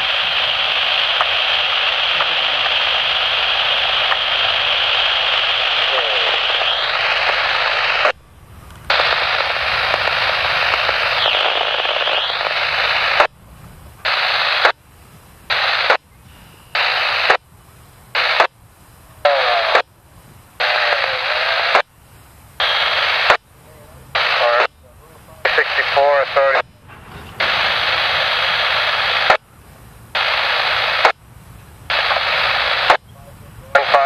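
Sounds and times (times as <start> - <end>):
radio static hiss: 0.0 - 34.0.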